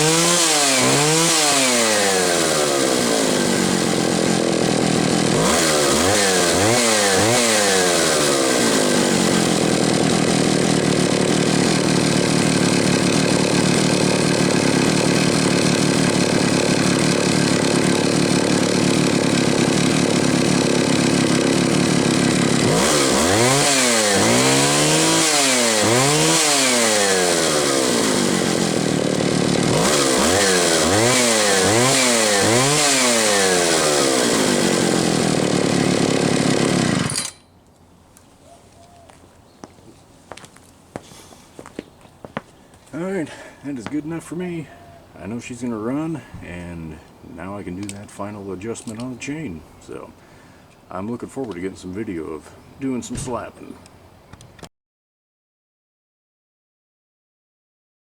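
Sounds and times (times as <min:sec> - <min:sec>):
chainsaw revving: 0:00.0 - 0:37.4, 0:43.0 - 0:54.0.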